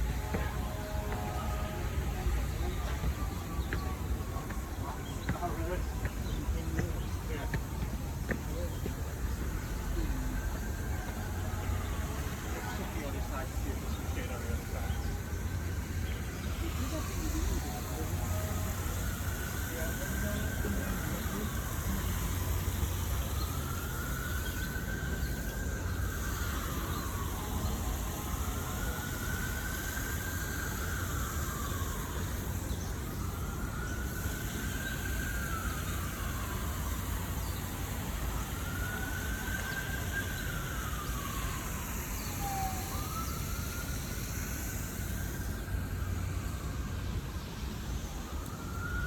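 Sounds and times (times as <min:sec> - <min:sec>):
emergency siren wailing: 0:00.0 - 0:49.0.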